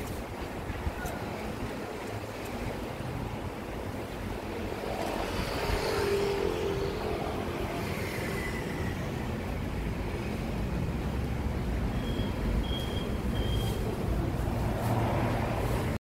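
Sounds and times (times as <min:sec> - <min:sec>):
low rumble of vehicle traffic: 0:00.0 - 0:16.0.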